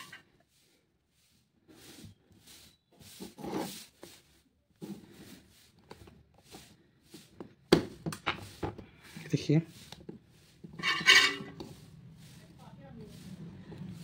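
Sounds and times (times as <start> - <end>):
soft rustling and handling: 0.0 - 14.0.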